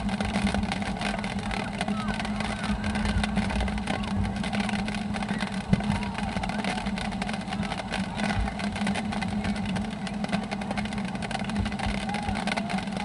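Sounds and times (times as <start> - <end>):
steady low hum: 0.0 - 13.0
wind rumble on microphone: 0.0 - 13.0.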